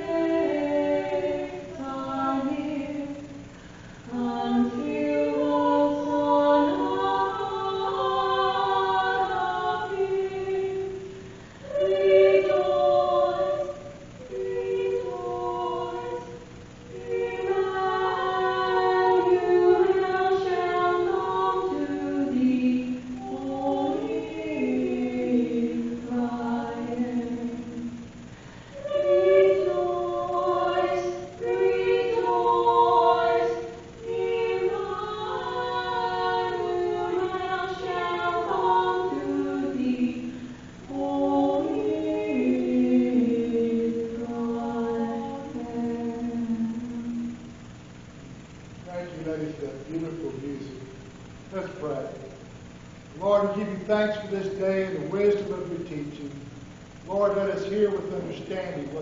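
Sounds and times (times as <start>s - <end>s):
church choir singing: 0.0s - 47.5s.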